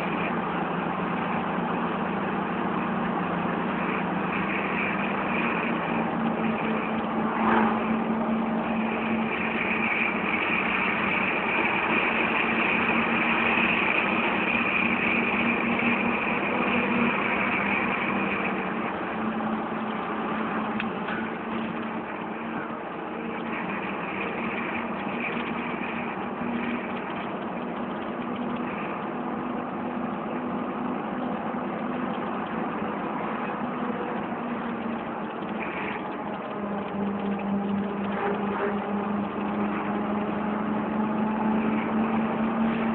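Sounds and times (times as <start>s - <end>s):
high-pitched whine: 0.0s - 42.9s
vehicle engine running: 0.0s - 42.9s.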